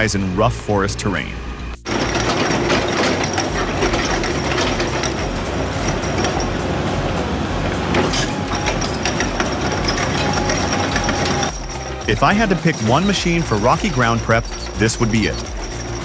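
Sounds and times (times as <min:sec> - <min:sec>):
clanking and crunching: 0:01.9 - 0:16.0
diesel engine under load: 0:01.9 - 0:16.0.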